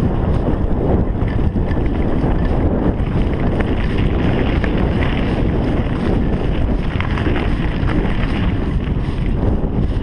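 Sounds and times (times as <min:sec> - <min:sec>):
bike ticks and rattles: 0:00.0 - 0:10.0
wind buffeting microphone: 0:00.0 - 0:10.0.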